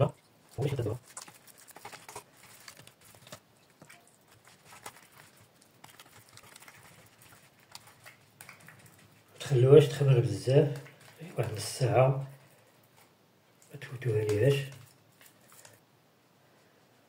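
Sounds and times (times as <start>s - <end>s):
hand patting dough: 0.0s - 13.0s, 13.6s - 15.8s.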